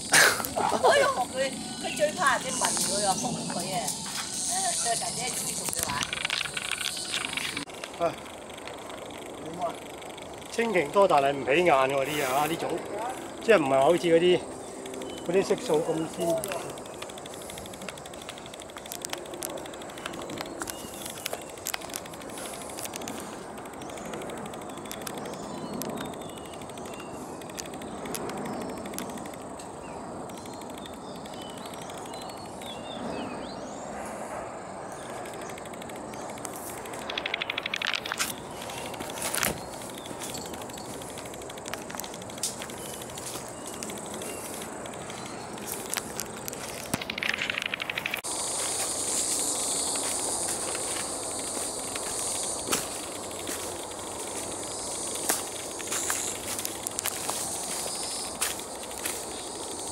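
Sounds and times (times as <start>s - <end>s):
insects buzzing and trilling: 0.0s - 59.9s
steady background hiss: 0.0s - 59.9s
sharp clicks: 2.5s - 32.8s, 35.1s - 59.9s.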